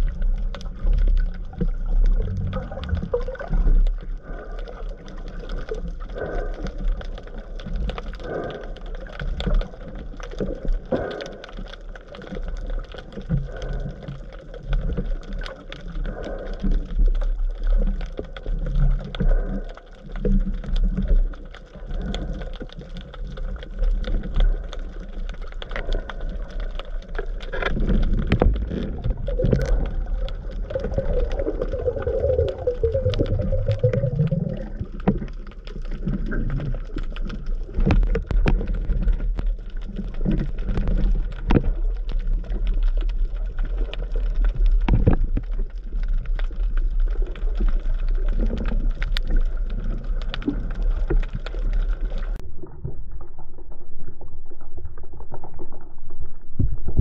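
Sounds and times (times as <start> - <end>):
low underwater rumble: 0.0 - 57.0
sharp clicks and crackles: 0.0 - 57.0.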